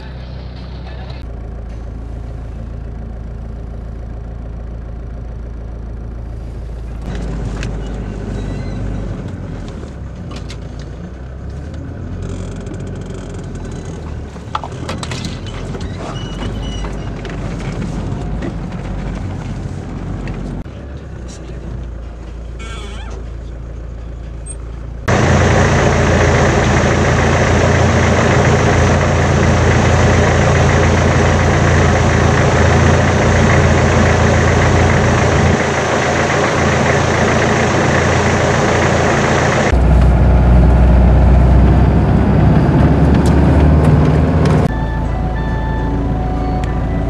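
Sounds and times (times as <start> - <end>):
low engine drone: 0.0 - 47.0
off-road vehicle engines: 0.0 - 47.0.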